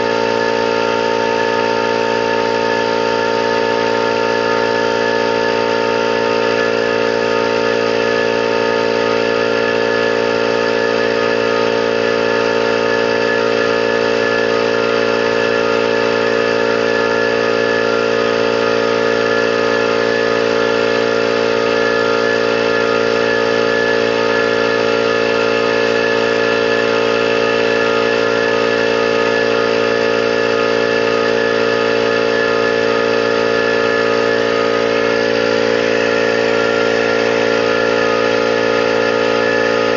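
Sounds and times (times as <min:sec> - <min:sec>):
electric air compressor running: 0:00.0 - 0:39.9.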